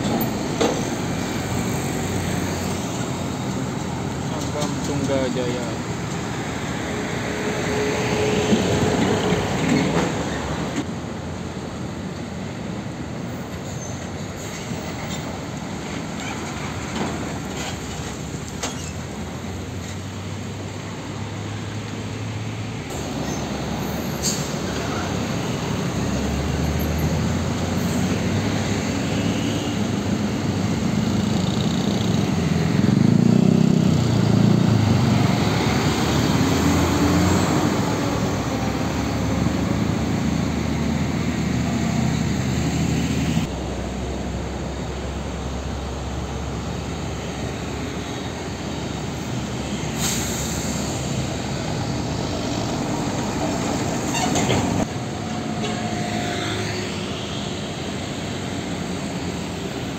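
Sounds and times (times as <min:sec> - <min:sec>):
truck passing: 0:00.0 - 0:11.6, 0:14.6 - 0:59.9
diesel truck engines: 0:00.0 - 0:59.9.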